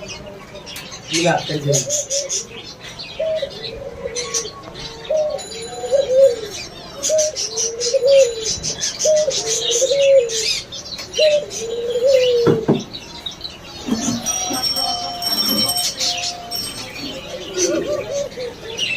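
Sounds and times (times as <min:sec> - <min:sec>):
small birds chirping: 0:00.0 - 0:18.9
dove cooing: 0:01.6 - 0:12.7, 0:13.8 - 0:18.9.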